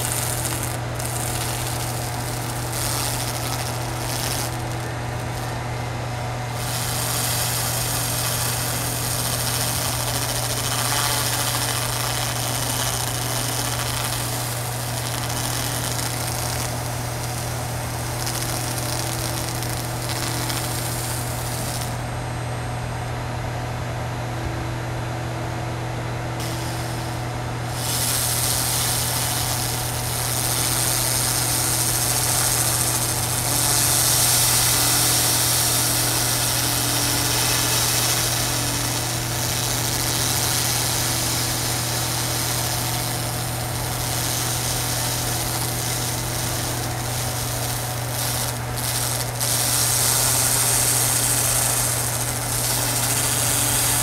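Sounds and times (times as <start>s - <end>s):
laser beam hissing on metal: 0.0s - 22.0s, 26.4s - 54.0s
laser unit humming: 0.0s - 54.0s.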